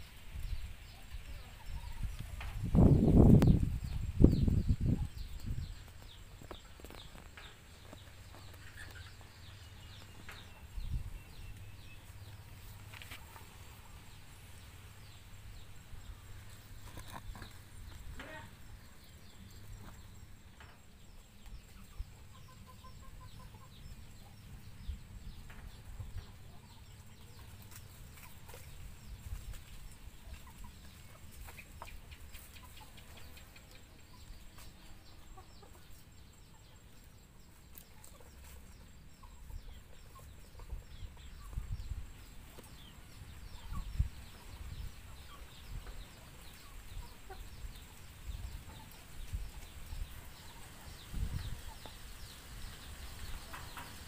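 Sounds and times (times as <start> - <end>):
chickens clucking: 0.3 - 54.0.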